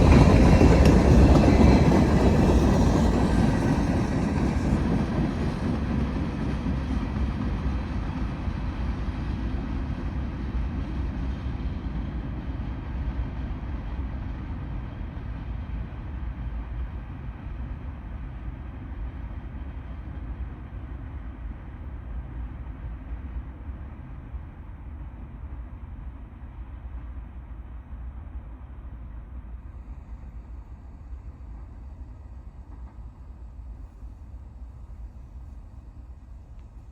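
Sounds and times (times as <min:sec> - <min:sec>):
freight train rumbling by: 0:00.0 - 0:36.9.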